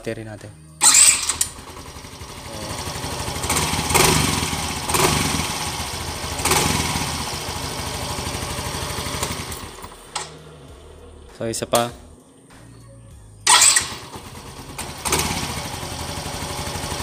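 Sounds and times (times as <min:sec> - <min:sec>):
scooter engine starting and revving: 0:00.8 - 0:12.2, 0:13.4 - 0:17.0.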